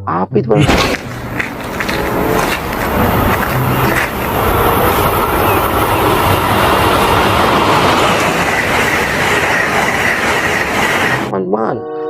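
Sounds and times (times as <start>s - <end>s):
train wheels on rails: 0.6s - 11.3s.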